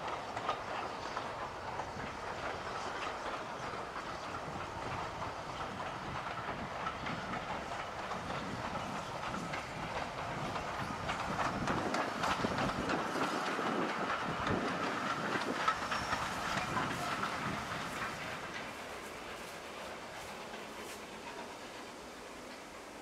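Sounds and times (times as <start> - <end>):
steam train running: 0.0 - 23.0
wheels clicking over rail joints: 0.0 - 23.0.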